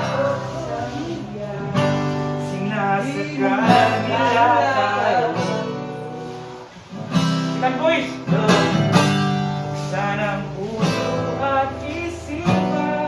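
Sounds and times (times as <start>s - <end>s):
person singing: 0.0s - 6.6s, 7.6s - 13.0s
strummed acoustic guitar: 0.0s - 13.0s.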